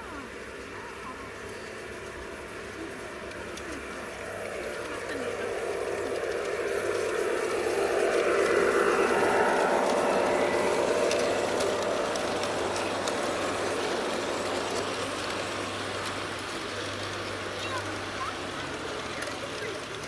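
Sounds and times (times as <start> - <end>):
model train passing: 0.0 - 20.0
wagons rolling with light clicks: 0.0 - 20.0.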